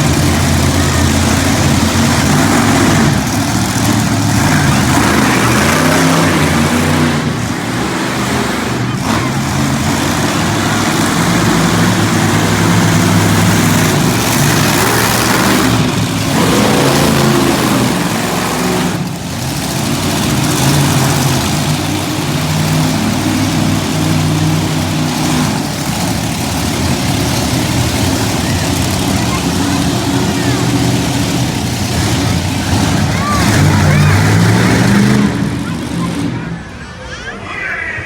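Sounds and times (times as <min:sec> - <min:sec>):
monster truck engines revving: 0:00.0 - 0:38.0.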